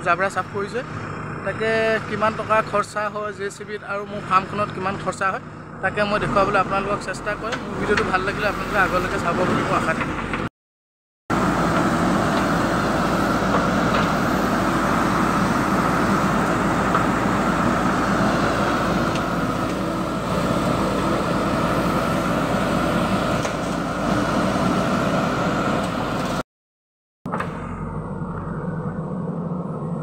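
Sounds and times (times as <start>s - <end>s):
diesel engine running under load: 0.0s - 10.5s, 11.3s - 26.4s, 27.3s - 30.0s.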